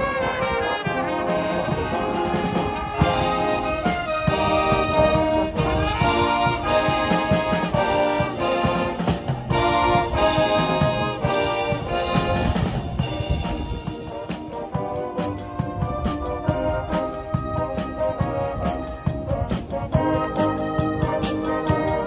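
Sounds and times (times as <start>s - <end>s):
brass band playing chords: 0.0s - 22.0s
drum kit: 0.0s - 22.0s.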